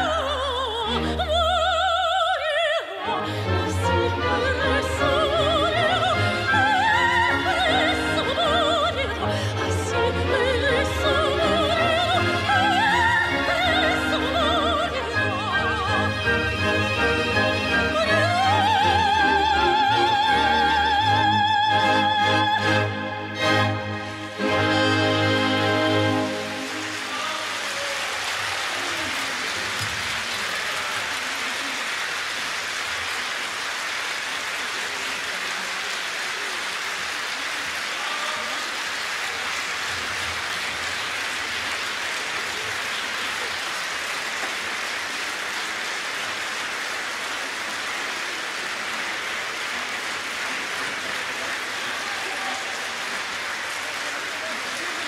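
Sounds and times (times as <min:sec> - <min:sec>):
audience applauding: 0:03.1 - 0:22.7, 0:24.2 - 0:55.0.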